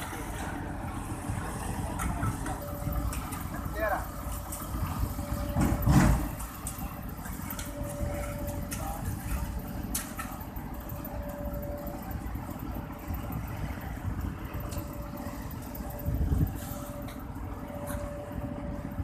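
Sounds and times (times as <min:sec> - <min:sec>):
machinery rumbling: 0:00.0 - 0:19.0.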